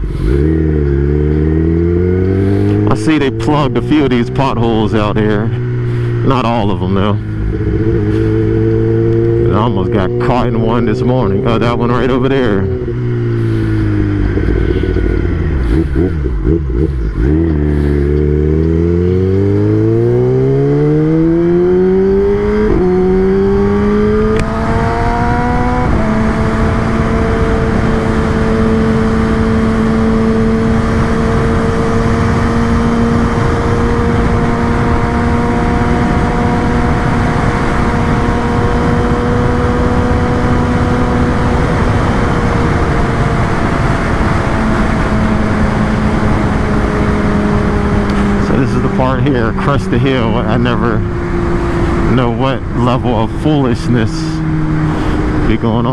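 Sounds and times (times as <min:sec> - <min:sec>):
motorcycle engine revving: 0:00.0 - 0:55.9
wind noise: 0:01.6 - 0:55.8.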